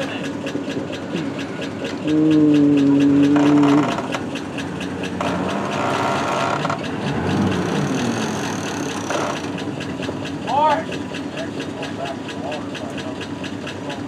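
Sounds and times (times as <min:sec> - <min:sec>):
pickup truck engine running: 0:00.0 - 0:14.0.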